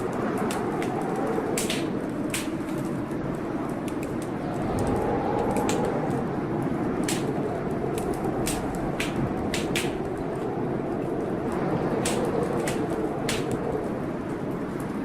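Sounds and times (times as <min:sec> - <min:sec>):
blizzard wind blowing: 0:00.0 - 0:15.0
wood fire crackling and popping: 0:00.0 - 0:15.0.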